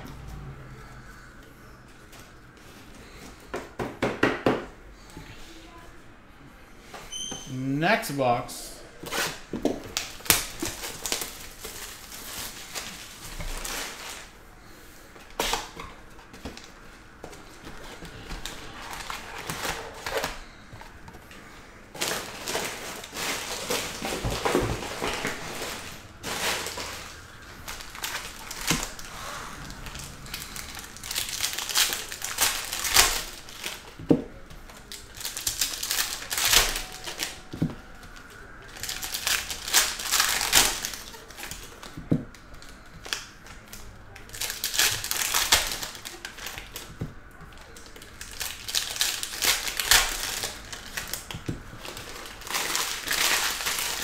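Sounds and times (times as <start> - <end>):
plastic wrap and foil packs crinkling: 8.9 - 54.0.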